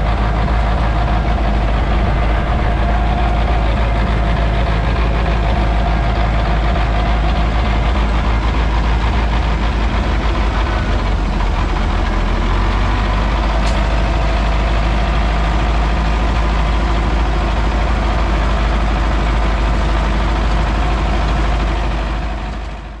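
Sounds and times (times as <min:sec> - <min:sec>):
diesel tractor engine rumble: 0:00.0 - 0:23.0.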